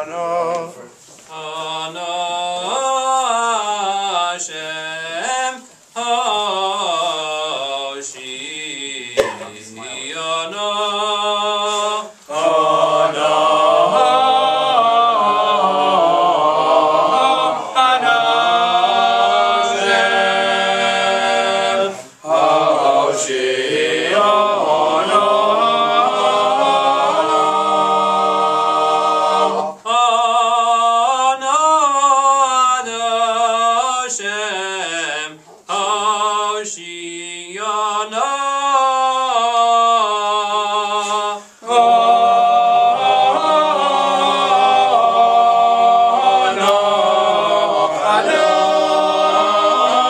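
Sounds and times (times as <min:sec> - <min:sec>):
men's choir singing a cappella: 0:00.0 - 0:50.0.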